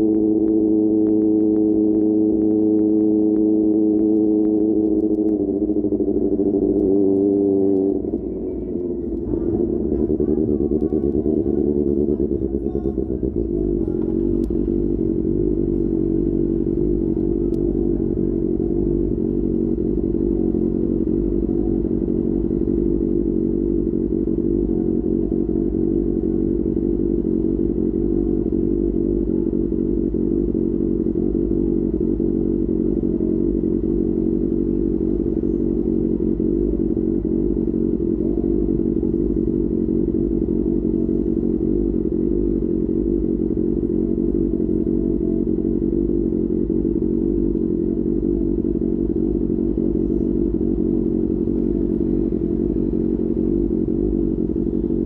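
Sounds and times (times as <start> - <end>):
motorcycle engine steady drone: 0.0 - 55.0.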